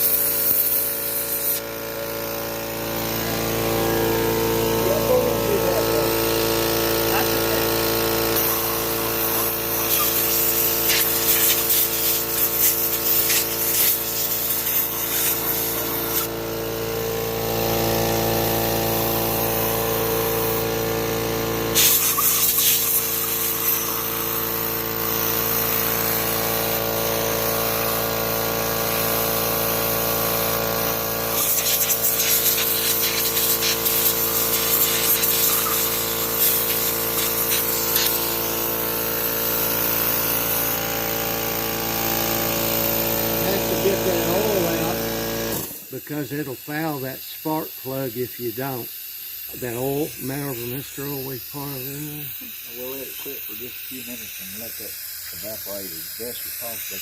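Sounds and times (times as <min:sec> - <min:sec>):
blower motor with air hiss: 0:00.0 - 0:57.0.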